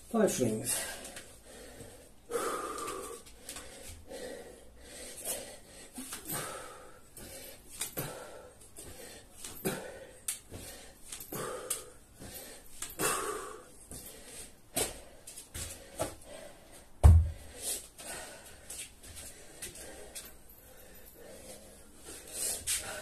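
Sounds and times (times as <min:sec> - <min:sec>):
man breathing hard and wheezing: 0:00.8 - 0:23.0.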